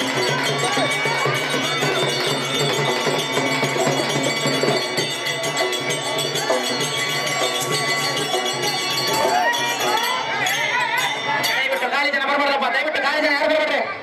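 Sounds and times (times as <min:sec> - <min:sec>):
rapid metallic jingling: 0:00.0 - 0:12.2
crowd voices: 0:00.0 - 0:14.0.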